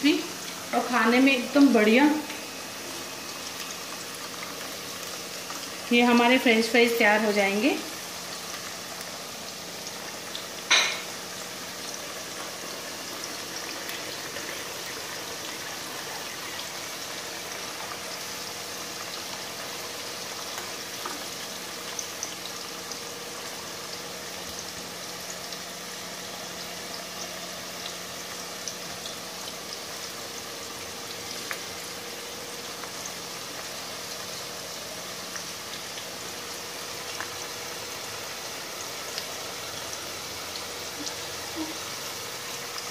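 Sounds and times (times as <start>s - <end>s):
potatoes sizzling in hot oil: 0.0s - 42.9s.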